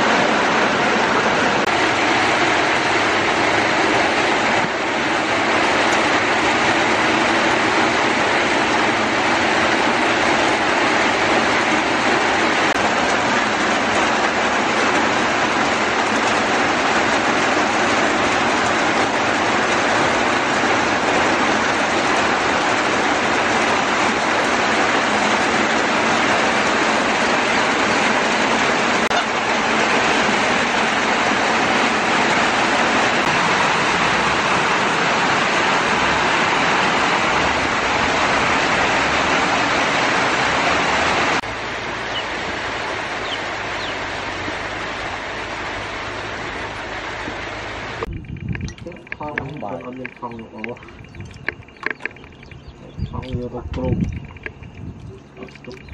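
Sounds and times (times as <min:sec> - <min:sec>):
steady loud rushing noise: 0:00.0 - 0:55.9.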